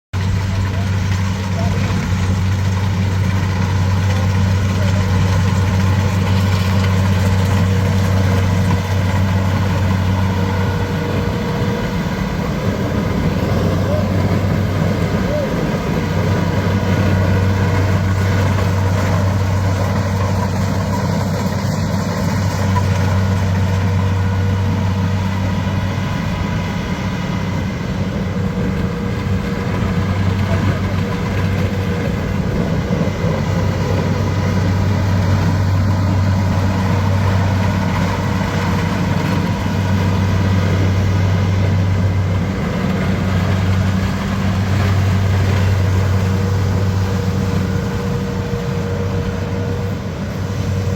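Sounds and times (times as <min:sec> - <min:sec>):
heavy machinery engine droning: 0:00.1 - 0:50.9.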